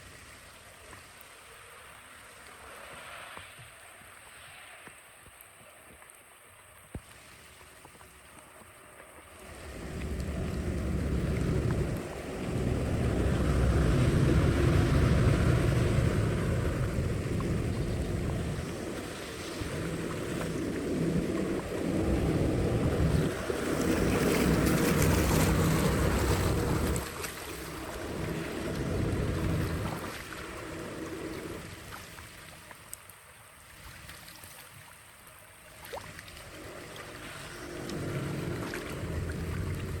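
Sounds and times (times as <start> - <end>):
flowing water: 0.0 - 40.0
loud low rushing water: 0.0 - 40.0.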